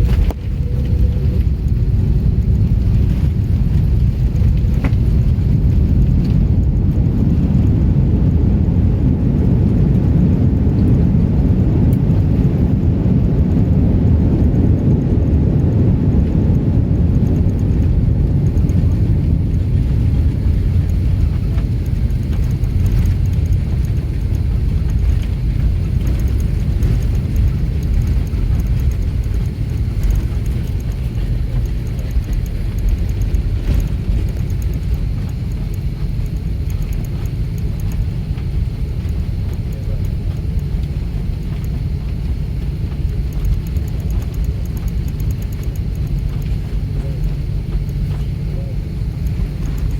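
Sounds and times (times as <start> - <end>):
airliner cabin engine rumble: 0.0 - 49.9.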